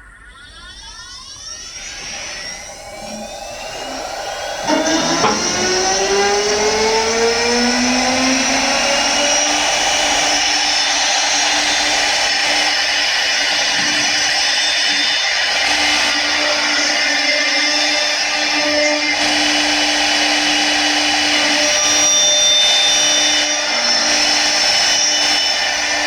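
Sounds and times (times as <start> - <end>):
lathe motor whine: 0.2 - 26.0
cutter in wood: 1.8 - 26.0.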